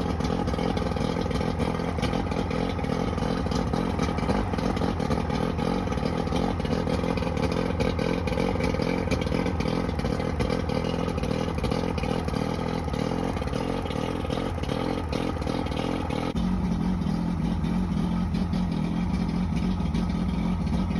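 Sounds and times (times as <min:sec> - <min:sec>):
outboard motor running rough: 0:00.0 - 0:20.9.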